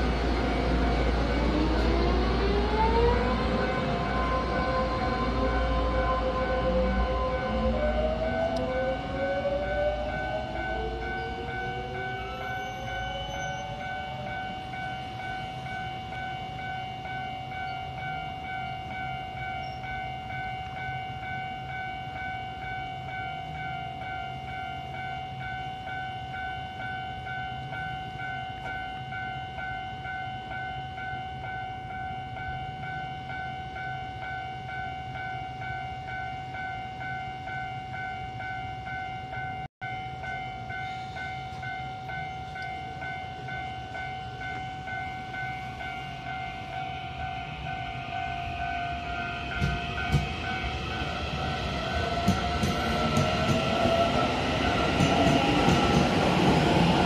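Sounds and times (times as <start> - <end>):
train inverter whine: 0.0 - 57.0.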